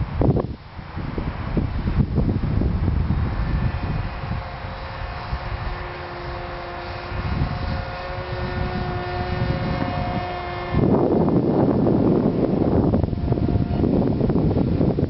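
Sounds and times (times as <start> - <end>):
wind rumbling on microphone: 0.0 - 15.0
electric motor and propeller whining: 0.2 - 15.0.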